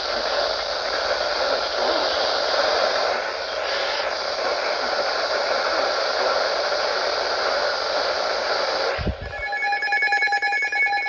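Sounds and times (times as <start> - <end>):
radio static hiss: 0.0 - 9.5.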